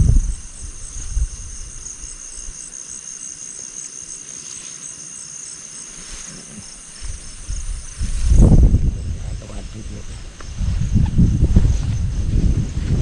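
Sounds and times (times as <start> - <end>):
high pulsing insect chirp: 0.0 - 13.0
night insects trilling: 0.0 - 13.0.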